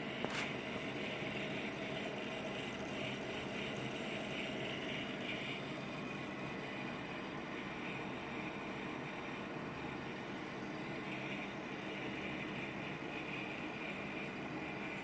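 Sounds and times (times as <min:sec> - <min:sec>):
machine hum and whir: 0:00.0 - 0:15.0.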